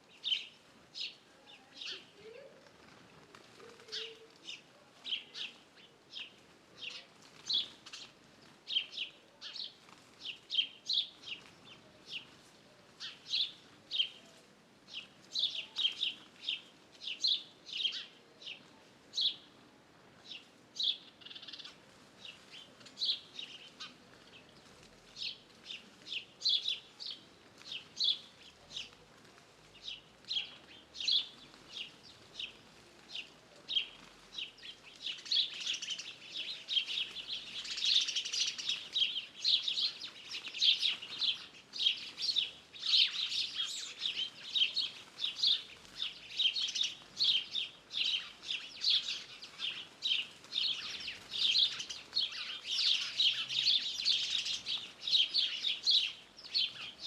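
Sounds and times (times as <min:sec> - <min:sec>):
small birds chirping: 0:00.0 - 0:19.5, 0:20.2 - 0:57.0.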